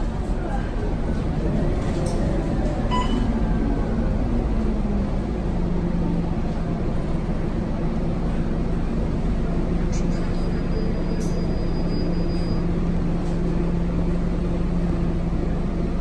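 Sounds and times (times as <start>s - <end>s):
bus diesel engine droning: 0.0s - 16.0s
road noise: 0.0s - 16.0s.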